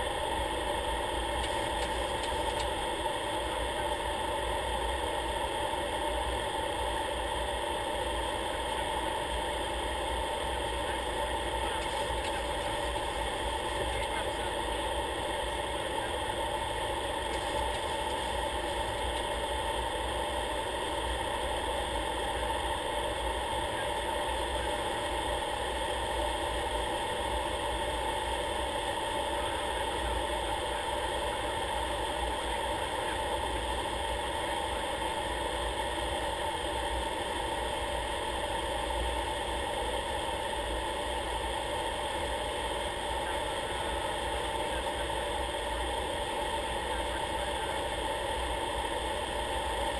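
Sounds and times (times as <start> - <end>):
aircraft engine and propeller drone: 0.0 - 49.9.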